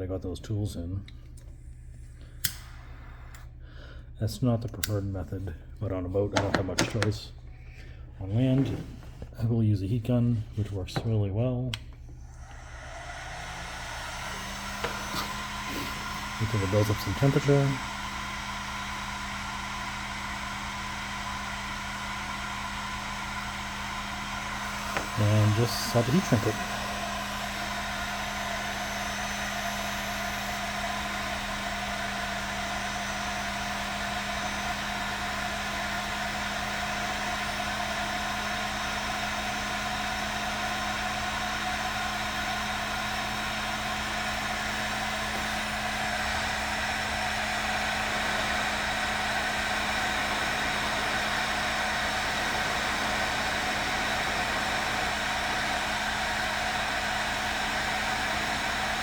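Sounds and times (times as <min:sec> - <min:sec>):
heat gun blowing air: 0:01.8 - 0:03.6, 0:11.8 - 0:59.0.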